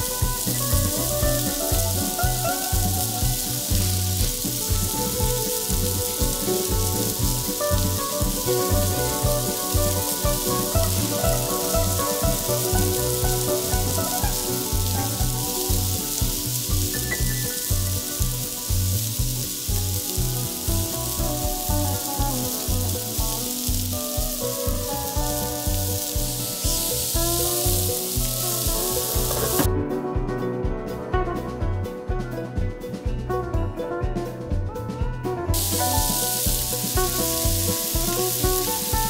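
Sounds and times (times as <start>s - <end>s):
potatoes sizzling in oil: 0.0s - 29.7s, 35.6s - 39.0s
background music with beat: 0.0s - 39.0s.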